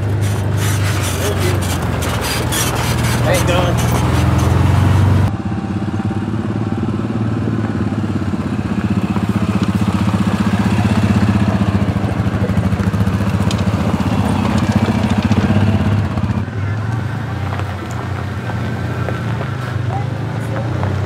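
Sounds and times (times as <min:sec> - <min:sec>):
off-road vehicle engines passing: 0:00.0 - 0:21.0.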